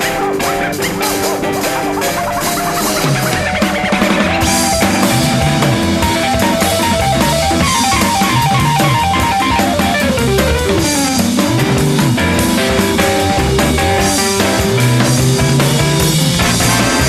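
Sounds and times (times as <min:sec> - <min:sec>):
bass: 0:00.0 - 0:17.0
drum kit: 0:00.0 - 0:17.0
electric guitar: 0:00.0 - 0:17.0.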